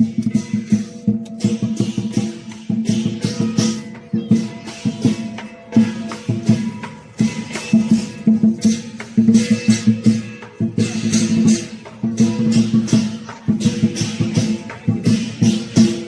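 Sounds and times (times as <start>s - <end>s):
big drum beating: 0.0s - 16.0s
cymbals clashing: 0.0s - 16.0s.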